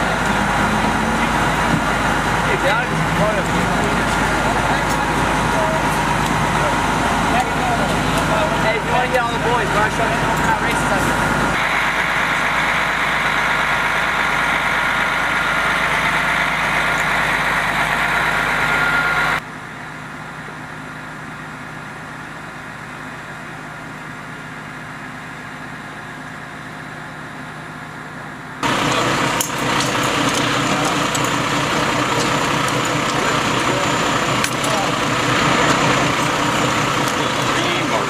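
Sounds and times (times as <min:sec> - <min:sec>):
bus diesel engines idling: 0:00.0 - 0:38.0.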